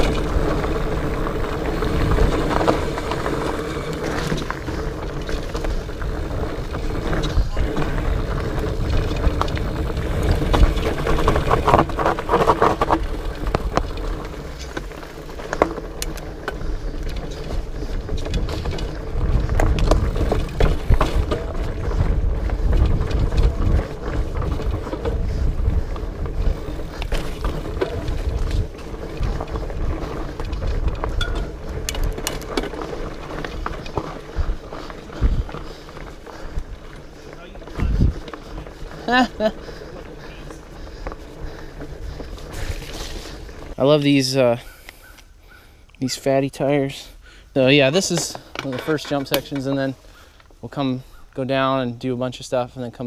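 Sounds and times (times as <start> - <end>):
bike tyres rumbling on rocks: 0.0 - 44.6
bike clicks and rattles: 0.0 - 45.3, 47.6 - 51.6.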